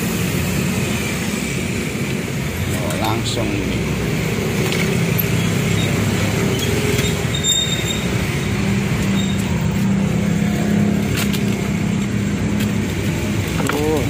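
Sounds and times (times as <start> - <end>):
engines idling: 0.0 - 14.0
road traffic hum: 0.0 - 14.0.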